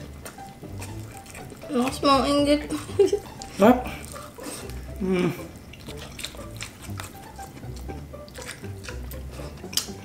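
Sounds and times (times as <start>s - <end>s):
chewing and wet mouth sounds: 0.0s - 10.0s.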